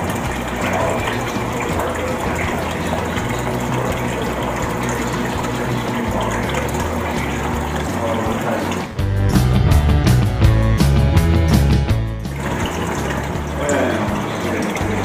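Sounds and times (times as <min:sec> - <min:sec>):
water flowing: 0:00.0 - 0:15.0
water pump whirring: 0:00.0 - 0:15.0.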